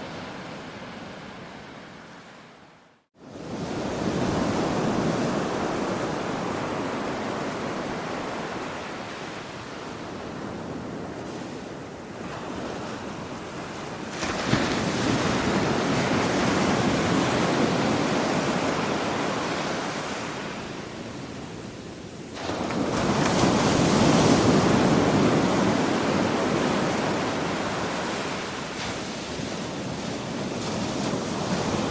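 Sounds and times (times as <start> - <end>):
ocean waves breaking: 3.2 - 21.0, 22.3 - 31.9.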